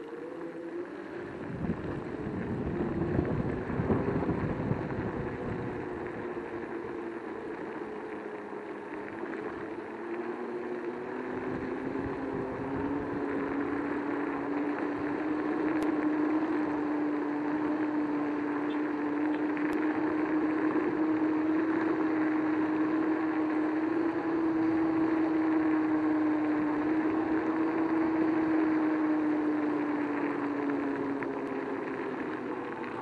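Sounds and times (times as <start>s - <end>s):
electric scooter motor whining: 0.0s - 33.0s.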